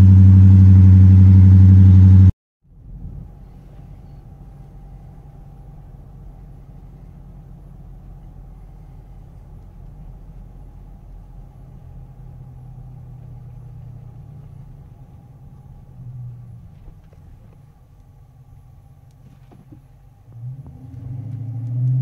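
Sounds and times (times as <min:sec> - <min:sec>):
low car exhaust drone: 0:00.0 - 0:22.0.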